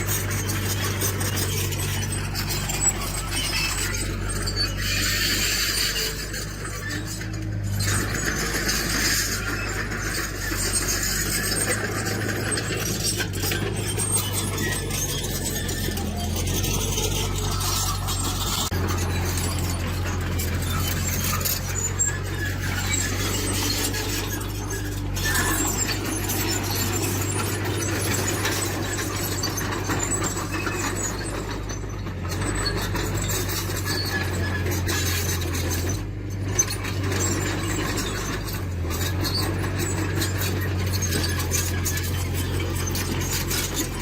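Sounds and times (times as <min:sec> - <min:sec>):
diesel engine running: 0:00.0 - 0:44.0
metal squeaks and clinks: 0:00.0 - 0:44.0.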